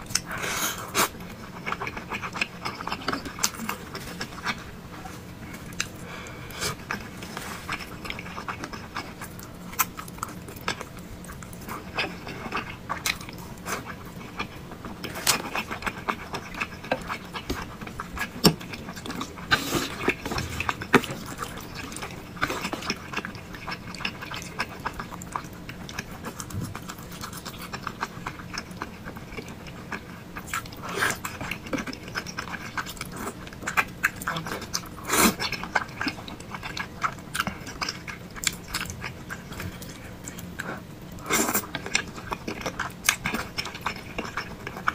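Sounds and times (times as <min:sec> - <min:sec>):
wet chewing and smacking: 0:00.0 - 0:44.9.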